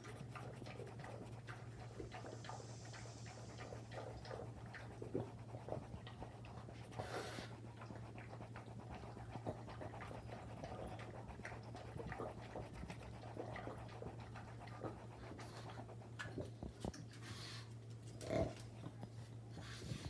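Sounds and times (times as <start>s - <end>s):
dog panting: 0.0s - 20.0s
steady low hum: 0.0s - 20.0s.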